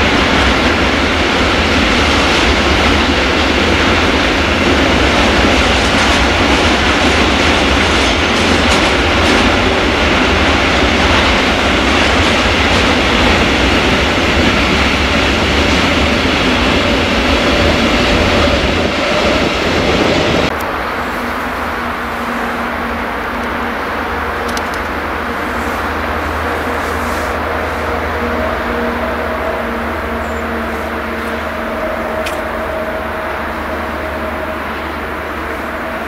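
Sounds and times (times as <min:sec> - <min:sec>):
train wheels on rails: 0:00.0 - 0:36.0.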